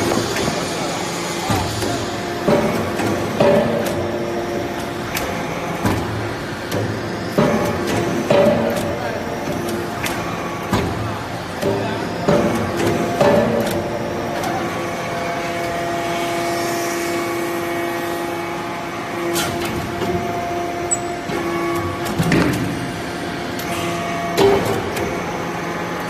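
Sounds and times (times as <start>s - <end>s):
hydraulic pump hum: 0.0s - 26.0s.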